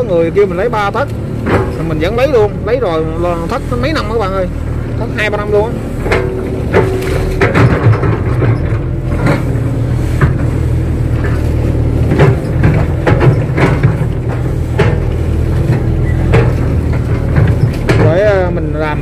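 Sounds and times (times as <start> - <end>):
excavator diesel engine running: 0.0 - 19.0
machine knocks and clanks: 0.0 - 19.0.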